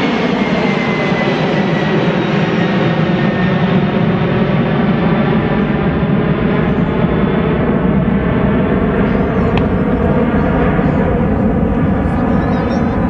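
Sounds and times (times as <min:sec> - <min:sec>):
jet engine whine: 0:00.0 - 0:13.0
jet engines rumbling: 0:00.0 - 0:13.0.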